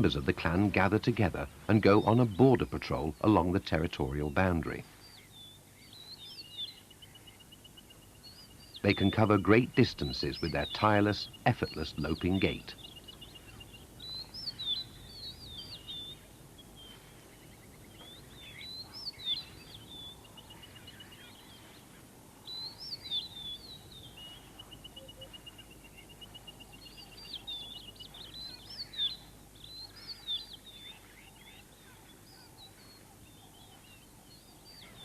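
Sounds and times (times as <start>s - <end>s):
birds warbling: 0.0s - 35.0s
low background hiss: 0.0s - 35.0s
rapid bird trills: 0.0s - 35.0s.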